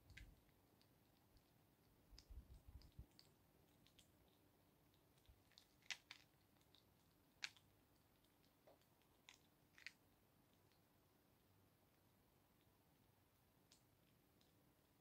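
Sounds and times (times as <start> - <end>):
hedgehog chewing and crunching: 0.0 - 15.0.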